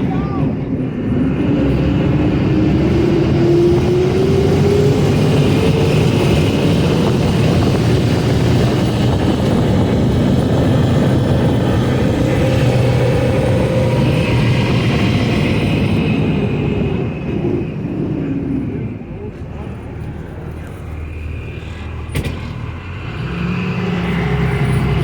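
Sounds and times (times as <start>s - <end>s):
amphibious vehicle engine drone: 0.0s - 25.0s.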